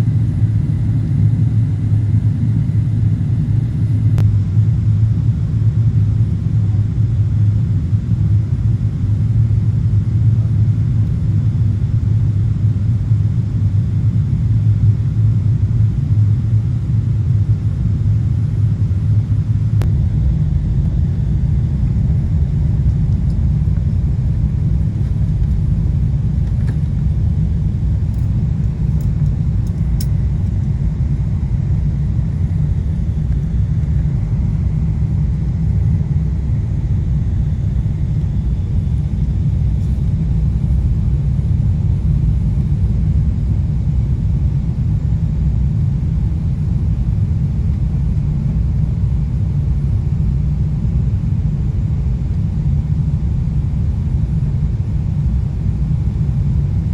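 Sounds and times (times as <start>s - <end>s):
airliner engines rumbling: 0.0s - 56.9s.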